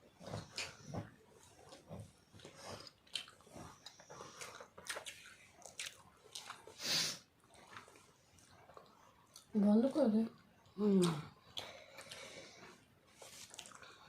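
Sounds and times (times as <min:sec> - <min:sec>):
people chewing: 0:00.0 - 0:14.0.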